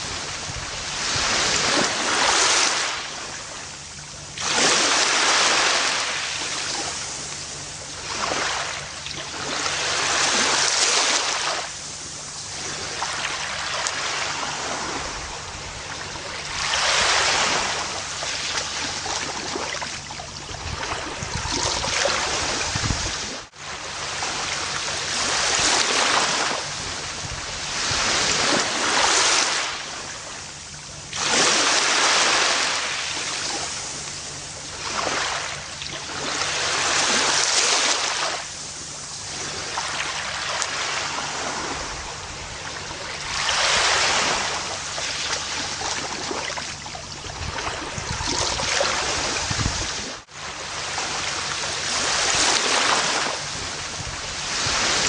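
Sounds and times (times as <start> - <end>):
ocean waves washing on beach: 0.0 - 55.0.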